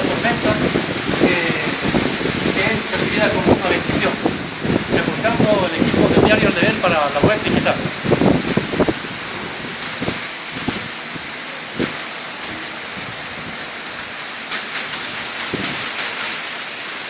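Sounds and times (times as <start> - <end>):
raindrop taps: 0.0 - 16.7
heavy rain hissing: 0.0 - 17.0.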